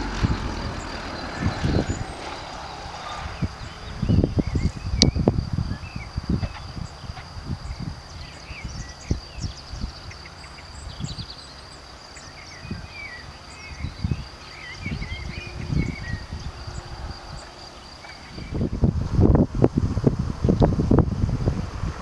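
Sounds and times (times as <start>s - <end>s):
birds chirping and twittering: 0.0s - 18.9s
wind buffeting microphone: 0.0s - 22.0s.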